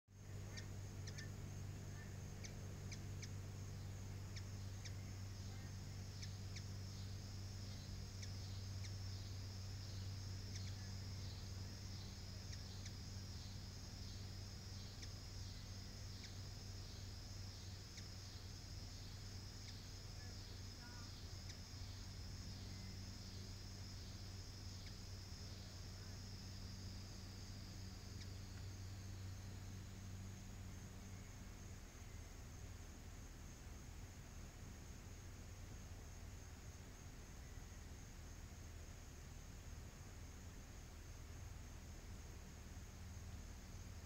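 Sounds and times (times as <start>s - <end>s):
low hum: 0.1s - 44.0s
pulsing insect chorus: 0.1s - 44.0s.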